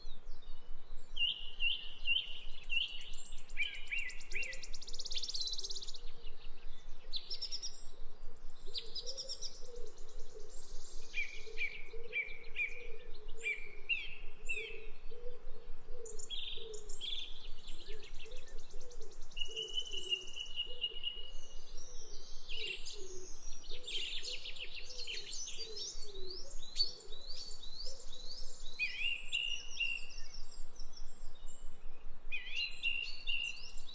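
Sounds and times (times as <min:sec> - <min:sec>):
birds chirping and singing: 0:00.1 - 0:15.4, 0:16.0 - 0:33.9.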